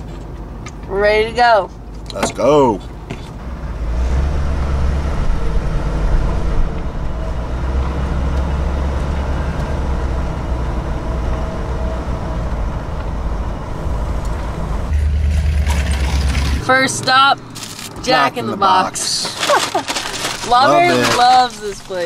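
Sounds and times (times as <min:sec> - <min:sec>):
motorhome engine and road rumble: 0:00.0 - 0:22.0.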